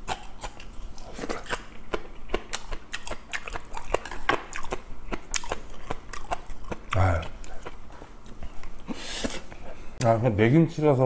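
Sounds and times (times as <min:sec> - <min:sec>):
crisp crunching chewing: 0:00.0 - 0:08.9
wet mouth clicks: 0:00.0 - 0:09.5.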